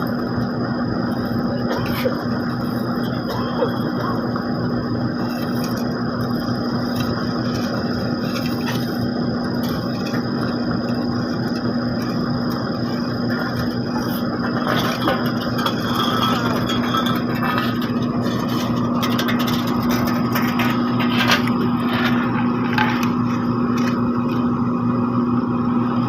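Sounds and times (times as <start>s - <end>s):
diesel machinery engine hum: 0.0s - 26.0s
steady high whine: 0.0s - 26.0s.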